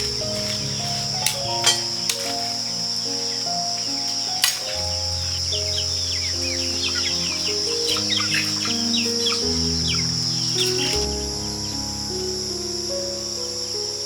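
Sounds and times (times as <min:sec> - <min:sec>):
birds chirping: 0:00.0 - 0:14.0
high insect drone: 0:00.0 - 0:14.0
soft background music: 0:00.0 - 0:14.0.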